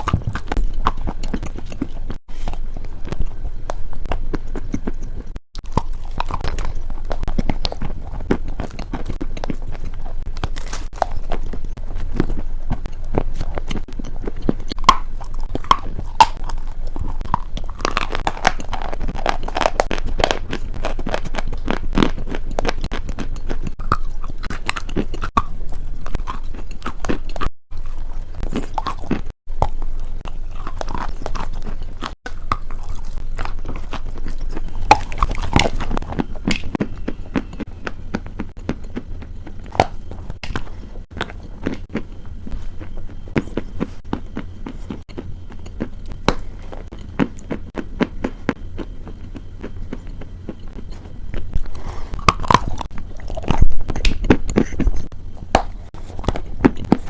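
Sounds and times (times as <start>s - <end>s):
crunchy food chewing: 0.0s - 57.0s.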